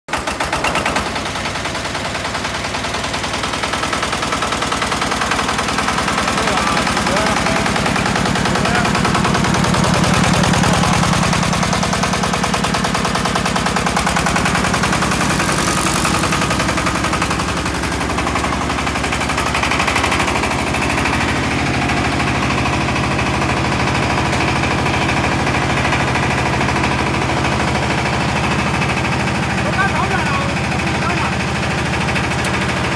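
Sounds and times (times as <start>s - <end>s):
diesel engine chugging: 0.1s - 32.9s.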